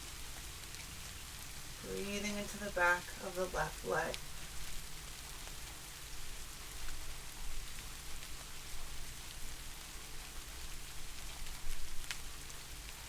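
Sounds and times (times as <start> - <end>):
soft rain falling: 0.0 - 13.0.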